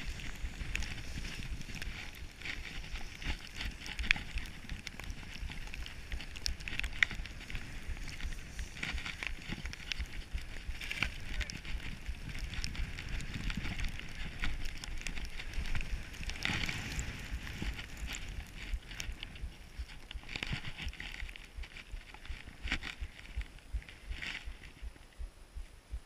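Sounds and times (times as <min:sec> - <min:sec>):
skis hissing over snow: 0:00.0 - 0:21.0
wind rumble on microphone: 0:00.0 - 0:26.0.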